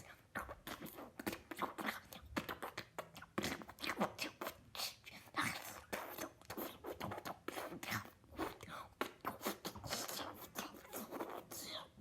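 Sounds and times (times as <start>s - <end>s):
person making mouth noises: 0.0s - 12.0s.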